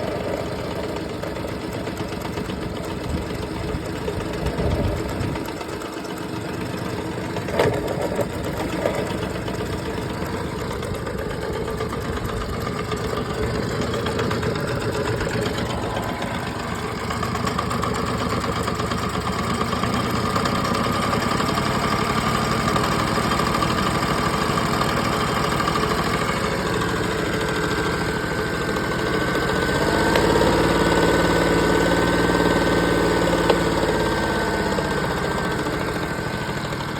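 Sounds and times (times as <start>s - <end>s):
outboard motor running: 0.0s - 36.9s.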